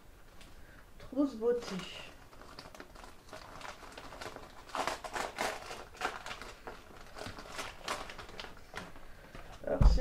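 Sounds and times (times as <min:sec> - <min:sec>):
wrapping crinkling and rustling: 0:00.2 - 0:10.0.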